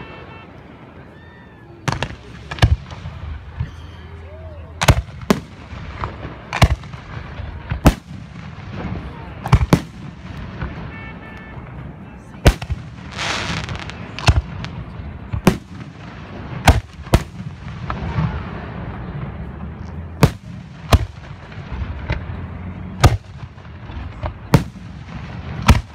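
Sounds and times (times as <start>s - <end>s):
firework shells booming: 1.8s - 3.8s, 4.8s - 11.8s, 12.4s - 25.9s.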